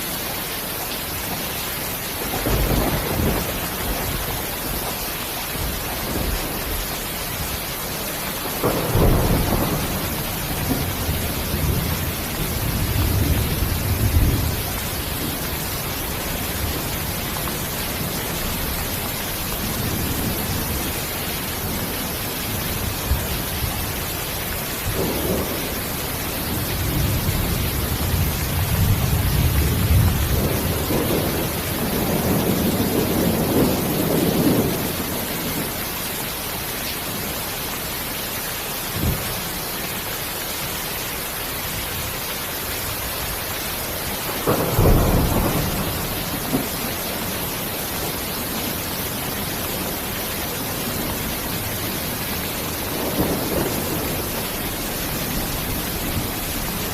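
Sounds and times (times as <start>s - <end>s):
heavy rain hissing: 0.0s - 56.9s
low rolls of thunder: 2.1s - 35.8s, 44.1s - 56.9s.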